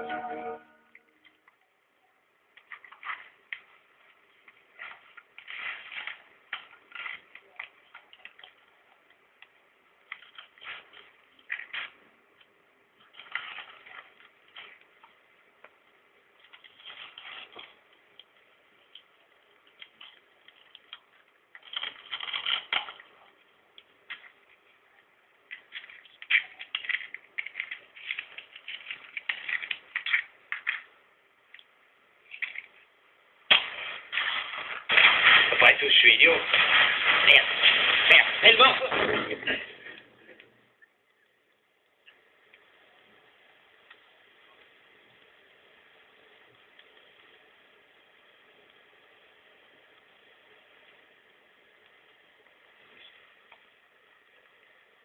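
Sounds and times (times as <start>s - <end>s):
crackling and rustling: 1.0s - 55.0s.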